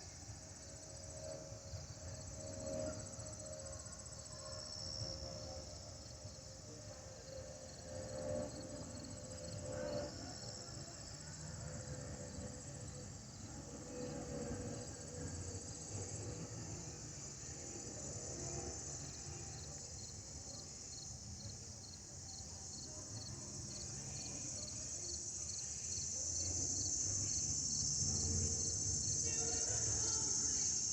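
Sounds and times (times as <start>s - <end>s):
crickets chirping: 0.0s - 30.9s.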